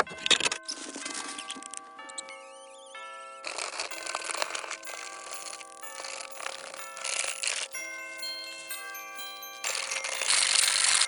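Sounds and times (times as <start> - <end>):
bell-like chiming notes: 0.0 - 11.0.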